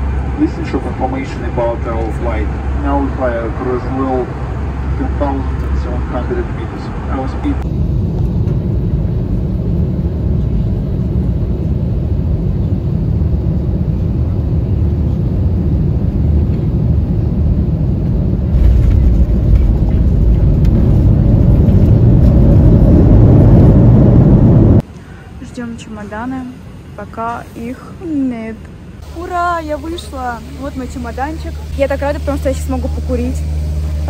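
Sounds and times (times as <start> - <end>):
airliner cabin rumble: 0.0 - 27.9, 28.6 - 34.0.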